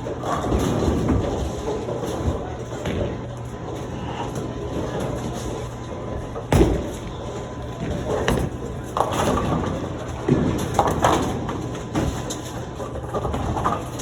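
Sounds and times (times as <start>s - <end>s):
balls rolling on lanes: 0.0s - 14.0s.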